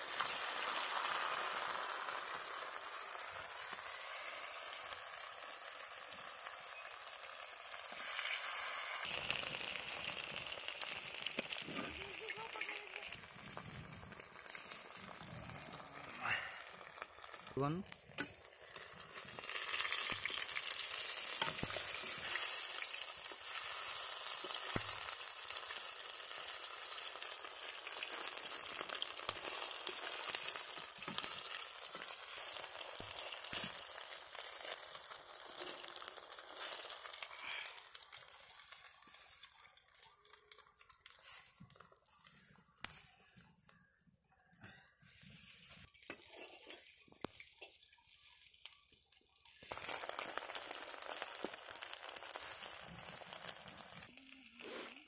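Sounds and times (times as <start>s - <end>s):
food sizzling in oil: 0.0s - 43.7s, 45.1s - 49.0s, 49.6s - 55.0s.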